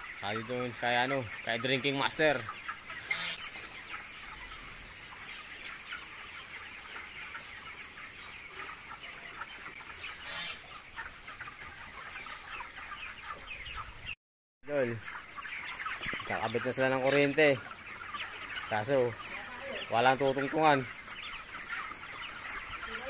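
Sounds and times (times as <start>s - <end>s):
chickens chirping and clucking: 0.0s - 23.0s.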